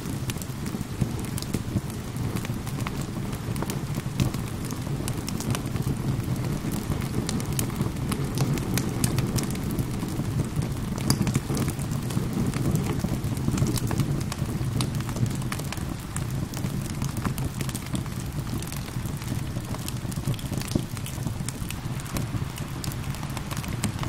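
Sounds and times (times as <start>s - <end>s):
rain: 0.0s - 24.0s
wood fire crackling and popping: 0.0s - 24.0s.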